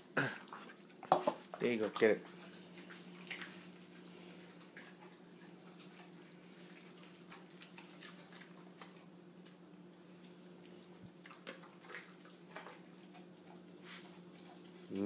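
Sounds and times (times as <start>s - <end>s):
dog chewing meat: 0.4s - 15.0s.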